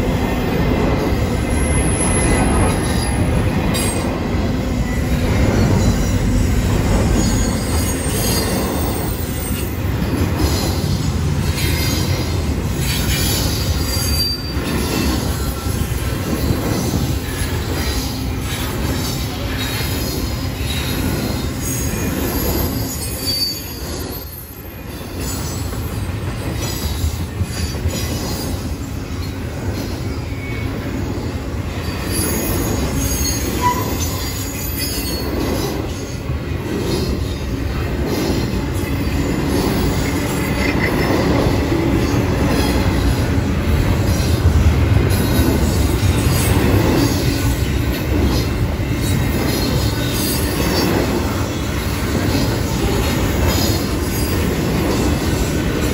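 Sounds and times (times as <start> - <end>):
steel wheels rolling on rail: 0.0 - 55.9.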